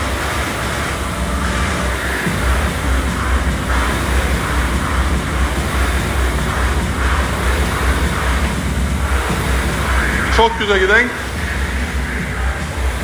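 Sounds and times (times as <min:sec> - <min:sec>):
low rumble: 0:00.0 - 0:13.0
rowing machine fan whooshing: 0:00.0 - 0:13.0.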